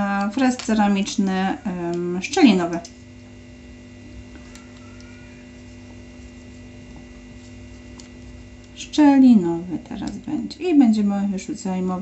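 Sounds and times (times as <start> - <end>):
electric nail drill humming: 0.0 - 10.1.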